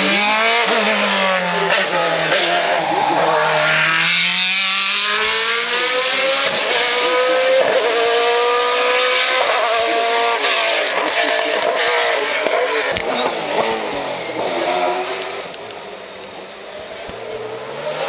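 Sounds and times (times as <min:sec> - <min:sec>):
racing car engine accelerating: 0:00.0 - 0:15.6.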